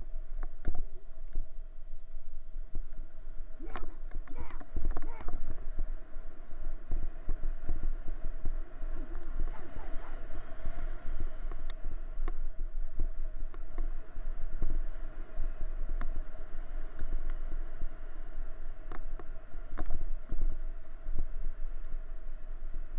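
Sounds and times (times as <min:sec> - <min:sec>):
cart wheels rumbling on dirt: 0:00.0 - 0:22.9.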